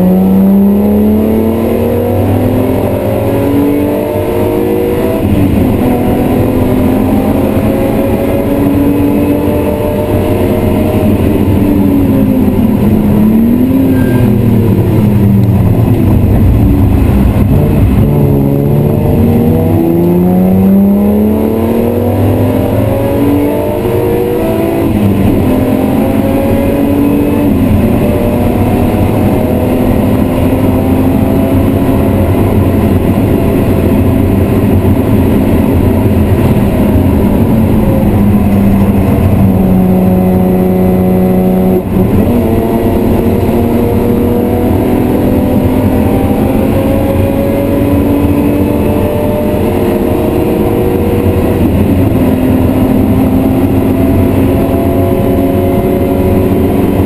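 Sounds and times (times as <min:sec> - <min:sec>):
car engine accelerating from inside: 0:00.0 - 0:57.0.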